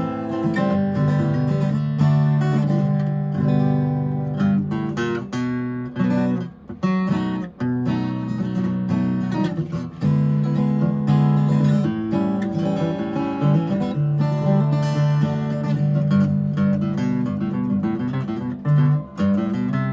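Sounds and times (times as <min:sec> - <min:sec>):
acoustic guitar strummed chords: 0:00.0 - 0:19.9.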